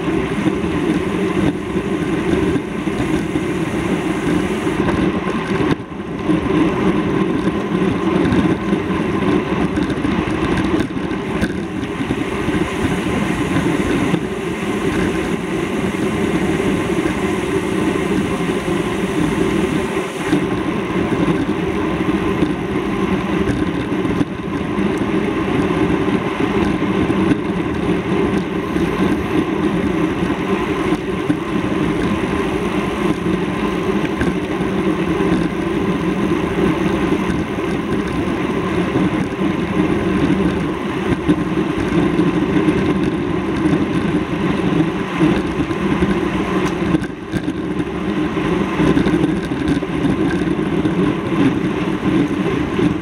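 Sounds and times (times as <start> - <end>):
vehicle rumble: 0.0 - 53.0.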